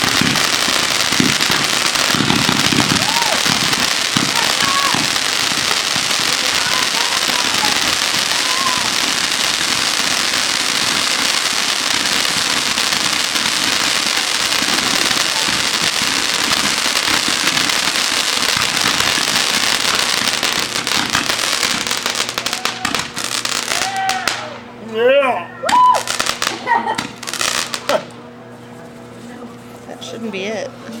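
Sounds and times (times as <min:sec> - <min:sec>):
fireworks crackling and popping: 0:00.0 - 0:24.6, 0:25.7 - 0:28.2.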